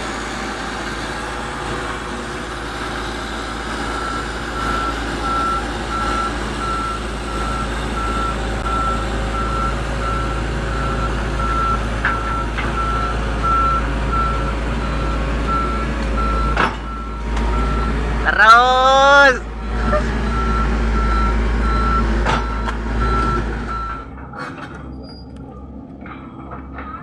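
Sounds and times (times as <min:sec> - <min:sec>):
truck engine rumble: 0:00.0 - 0:27.0
truck reversing alarm beeping: 0:00.0 - 0:27.0.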